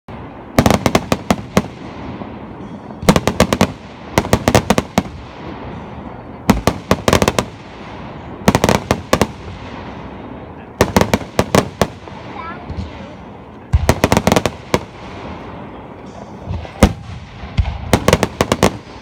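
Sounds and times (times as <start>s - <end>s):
fireworks cracking: 0.1s - 19.0s.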